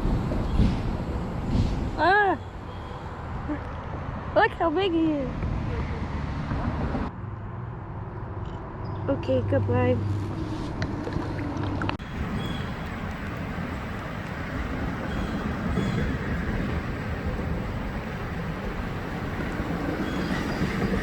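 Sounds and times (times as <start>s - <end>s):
wind buffeting microphone: 0.0s - 7.1s, 7.8s - 21.0s.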